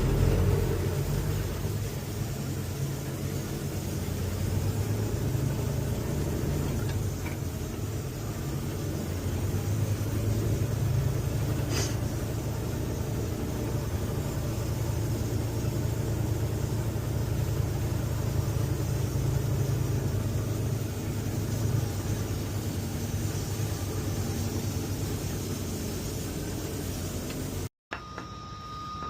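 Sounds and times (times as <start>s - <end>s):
diesel engine rumbling: 0.0s - 27.7s.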